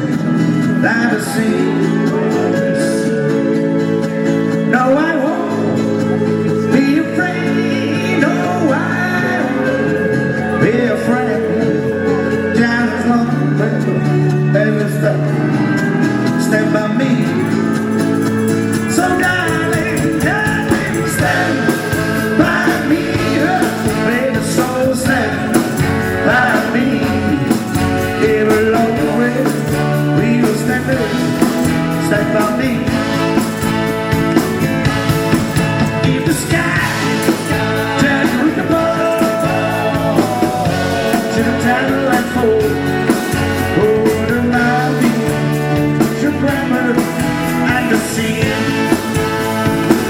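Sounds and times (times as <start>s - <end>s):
live rock band playing ballad: 0.0s - 50.0s
person singing: 0.0s - 50.0s.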